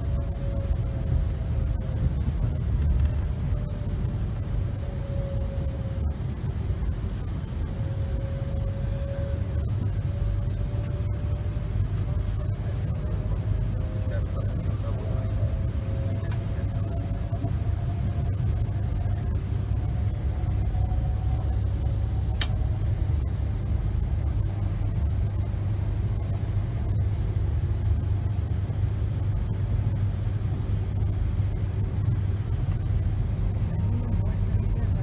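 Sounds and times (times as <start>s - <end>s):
electric train rumble: 0.0s - 35.0s
faint whine: 0.0s - 35.0s.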